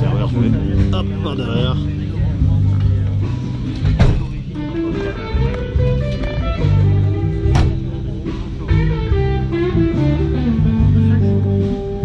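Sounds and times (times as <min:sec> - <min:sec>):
bass line: 0:00.0 - 0:12.0
electric guitar music: 0:00.0 - 0:12.0.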